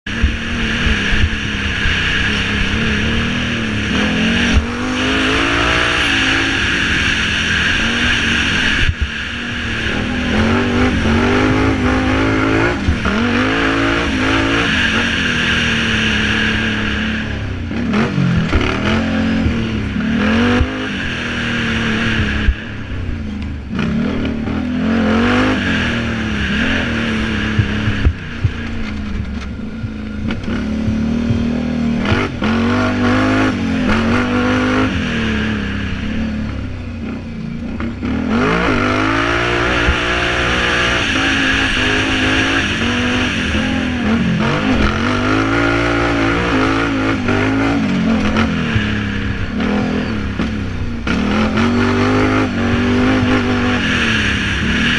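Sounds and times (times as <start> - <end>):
quad engine revving: 0.0 - 54.9.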